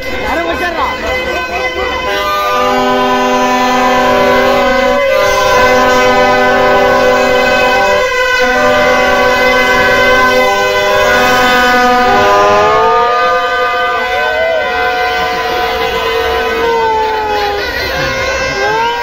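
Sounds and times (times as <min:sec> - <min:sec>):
toy trumpets blaring: 0:00.0 - 0:19.0.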